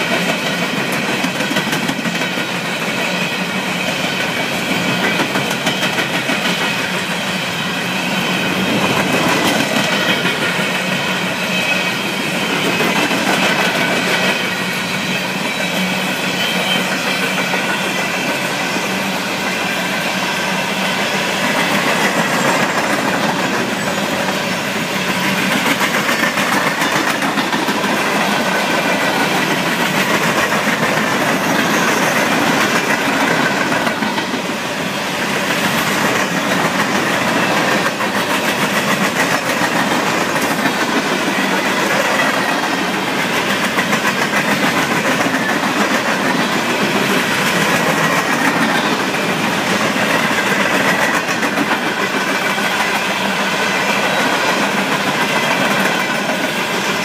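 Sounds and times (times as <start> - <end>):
train wheels on rails: 0.0 - 57.0.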